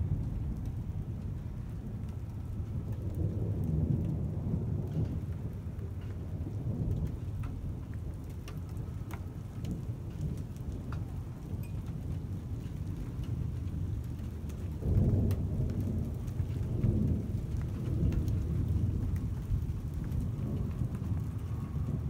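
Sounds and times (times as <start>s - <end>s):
rain falling: 0.0s - 22.0s
thunder rumble: 0.0s - 22.0s.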